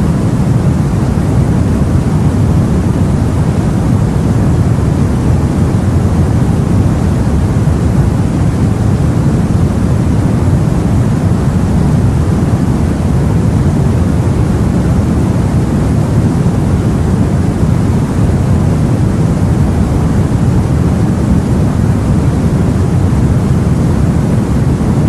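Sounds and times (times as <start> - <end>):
wind and sea rumbling: 0.0 - 25.0.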